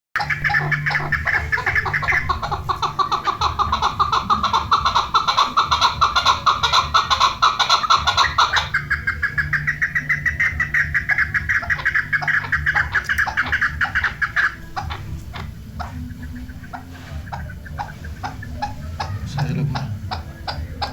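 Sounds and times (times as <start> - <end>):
partridge chuckling call: 0.2 - 20.9
scattered ticks: 0.2 - 20.9.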